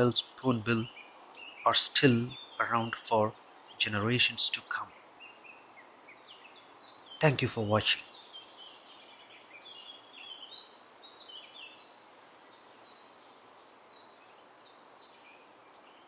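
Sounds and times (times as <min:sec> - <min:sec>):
faint outdoor hiss: 0:00.0 - 0:16.0
small birds chirping: 0:00.0 - 0:16.0.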